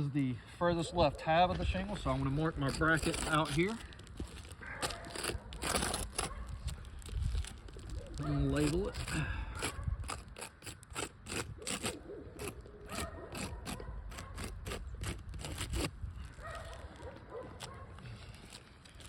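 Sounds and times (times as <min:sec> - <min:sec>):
marker scratching on shingle: 0:00.8 - 0:19.0.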